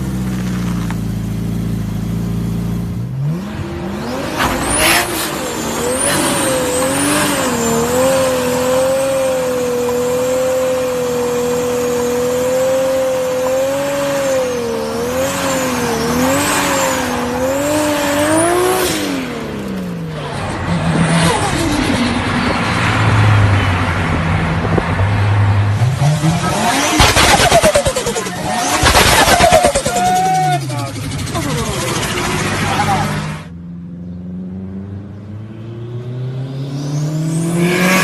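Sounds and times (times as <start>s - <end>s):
turbocharged car engine revving: 0.0s - 38.0s.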